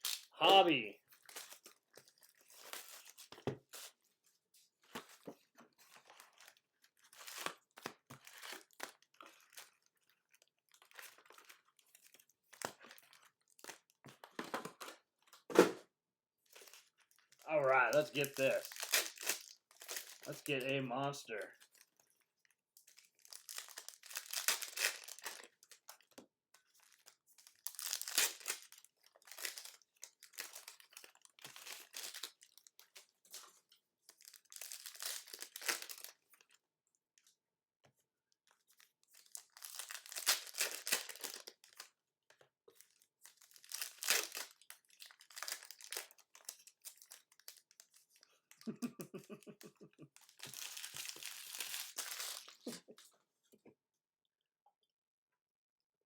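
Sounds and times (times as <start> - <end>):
plastic wrapping torn and crinkled: 0.0 - 3.9, 5.8 - 15.4, 16.5 - 20.7, 21.6 - 36.5, 38.7 - 41.9, 42.7 - 49.3, 50.2 - 52.9.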